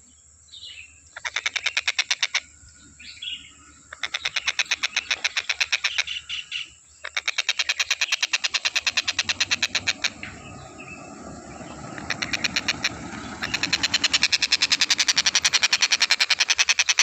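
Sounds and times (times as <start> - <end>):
bird rattling song: 1.1 - 17.0.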